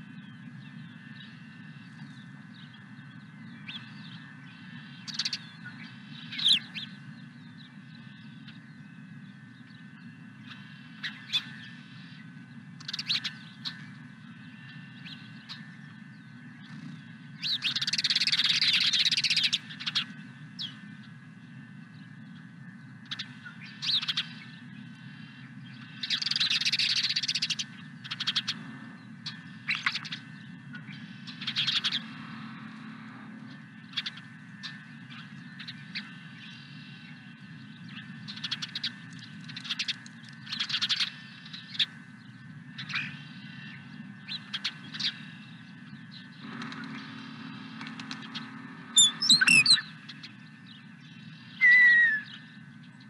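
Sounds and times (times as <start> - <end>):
birds chirping: 0.0 - 53.0
low background hum: 0.0 - 53.0.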